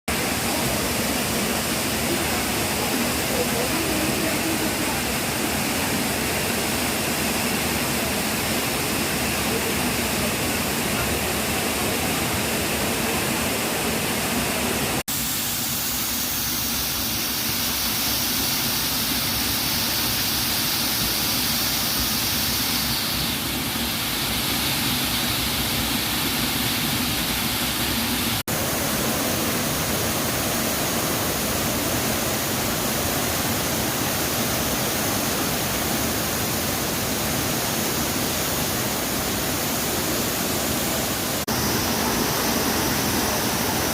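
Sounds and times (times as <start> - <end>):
waterfall rushing: 0.1 - 15.2, 15.9 - 43.9.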